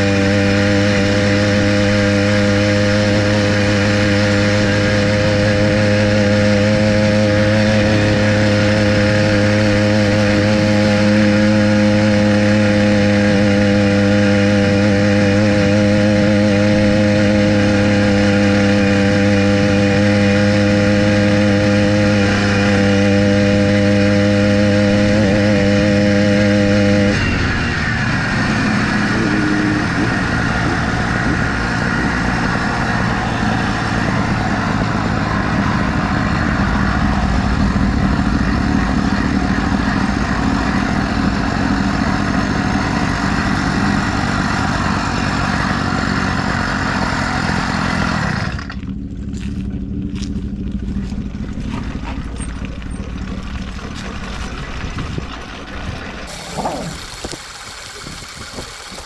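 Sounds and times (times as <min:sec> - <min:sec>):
small engine running: 0:00.0 - 0:49.7, 0:50.4 - 0:59.0.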